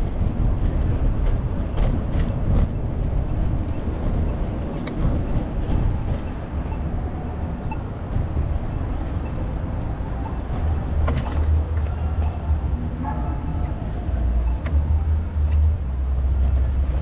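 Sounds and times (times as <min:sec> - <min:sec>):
city traffic noise: 0:00.0 - 0:17.0
wind buffeting microphone: 0:00.0 - 0:17.0.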